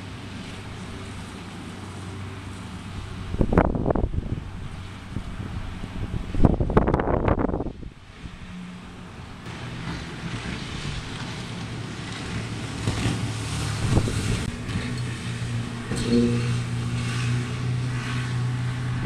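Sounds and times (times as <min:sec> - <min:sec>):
boat engine running: 0:00.0 - 0:19.0
wind buffeting microphone: 0:00.2 - 0:19.0.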